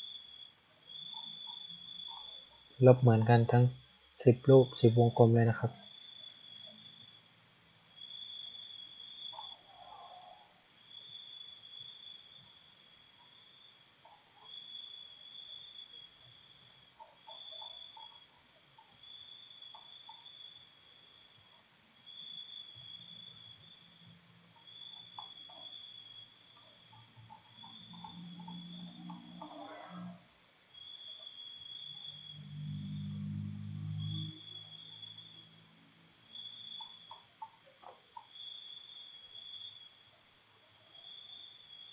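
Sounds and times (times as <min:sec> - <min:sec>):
insect chirps: 0:00.0 - 0:41.9
insects trilling: 0:00.0 - 0:41.9.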